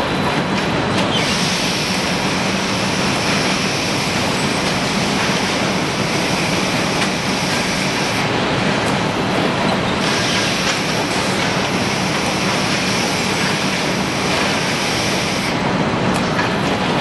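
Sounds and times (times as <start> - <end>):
packing machine motors and conveyors: 0.0 - 17.0.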